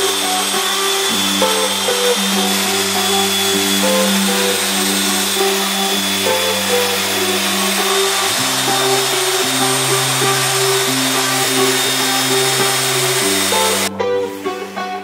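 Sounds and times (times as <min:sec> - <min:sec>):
belt sander whirring: 0:00.0 - 0:13.9.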